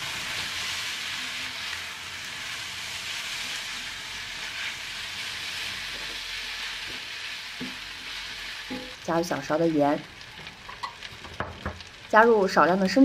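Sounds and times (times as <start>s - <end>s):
food sizzling in a wok: 0.0s - 13.0s
spatula stir-frying: 0.0s - 13.0s.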